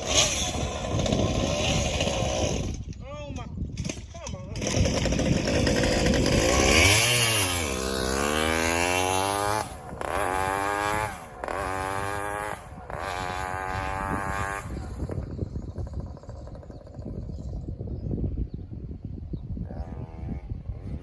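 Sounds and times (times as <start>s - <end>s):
two-stroke engine revving: 0.0s - 2.9s, 3.8s - 17.7s.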